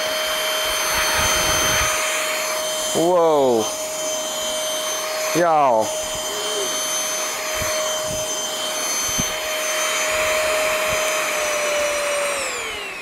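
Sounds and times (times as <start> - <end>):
vacuum cleaner whining: 0.0 - 13.0
vacuum motor spinning down: 0.0 - 13.0.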